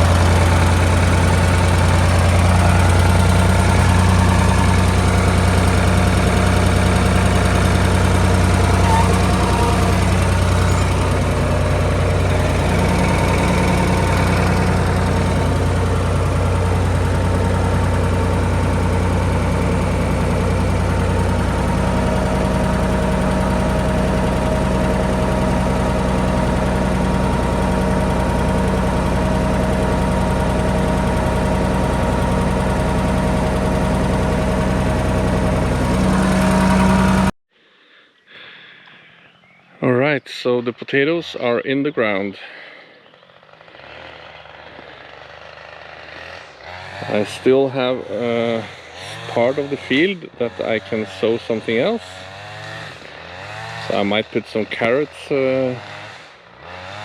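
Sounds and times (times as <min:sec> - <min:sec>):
tractor engine running: 0:00.0 - 0:37.4, 0:43.3 - 0:54.2.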